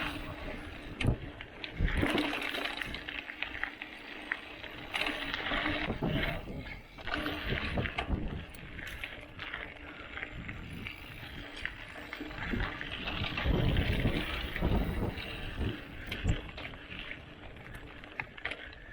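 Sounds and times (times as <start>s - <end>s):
wind buffeting microphone: 0.0s - 3.7s, 4.7s - 18.9s
bike rattling: 0.0s - 18.9s
bike tyres on dirt: 0.0s - 18.9s.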